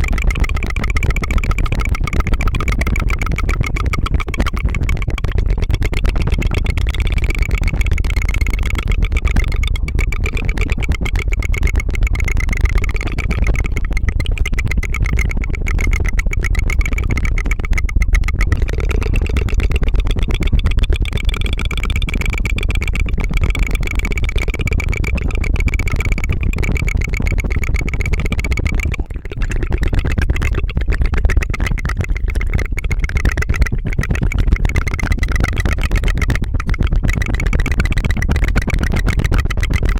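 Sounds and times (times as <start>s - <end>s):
rolled tongue trill: 0.0s - 39.9s.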